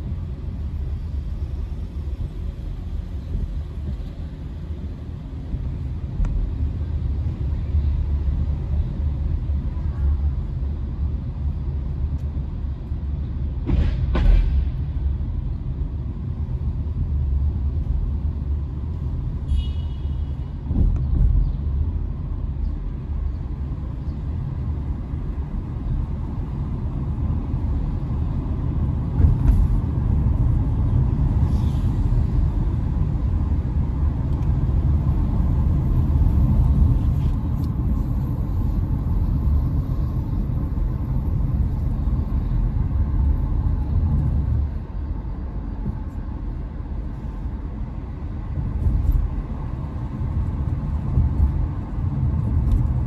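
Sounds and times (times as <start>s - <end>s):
car engine and tyre rumble: 0.0s - 53.0s.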